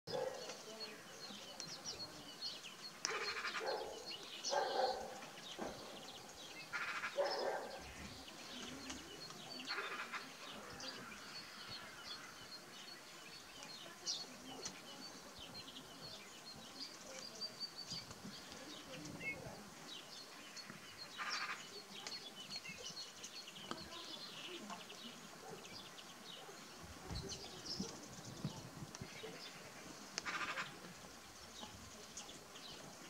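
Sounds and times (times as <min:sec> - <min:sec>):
harsh bird calls: 0:00.1 - 0:32.8
birds chirping and twittering: 0:00.1 - 0:33.0.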